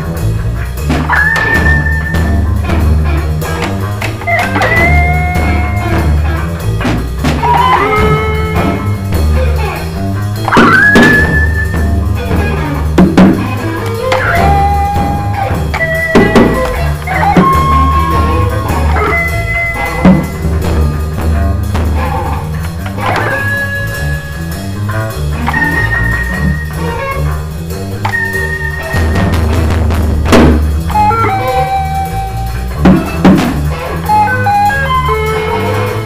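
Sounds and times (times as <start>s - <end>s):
bass line: 0.0s - 36.0s
drum kit: 0.0s - 36.0s
electric guitar bending notes: 0.0s - 36.0s.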